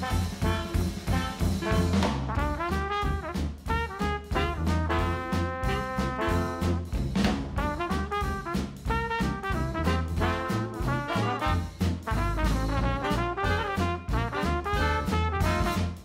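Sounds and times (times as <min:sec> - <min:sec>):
upbeat swing jazz with brass: 0:00.0 - 0:16.0.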